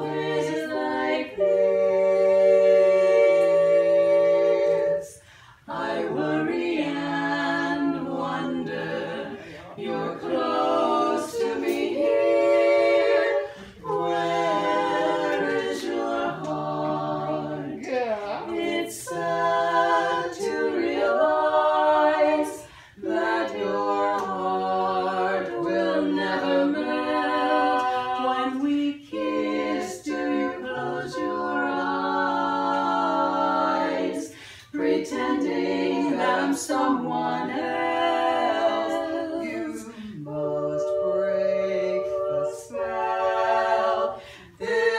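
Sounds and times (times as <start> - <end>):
women singing a cappella: 0.0 - 44.9.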